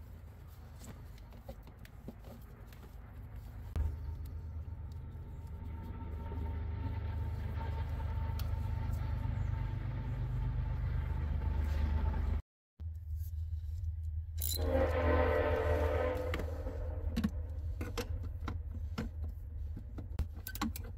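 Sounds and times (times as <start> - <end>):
vehicle engine rumble: 0.0 - 20.9.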